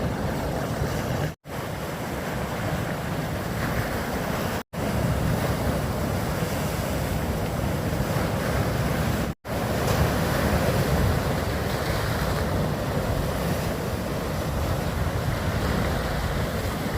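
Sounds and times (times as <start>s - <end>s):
sea waves washing in: 0.0s - 16.9s
wind buffeting microphone: 0.0s - 16.9s.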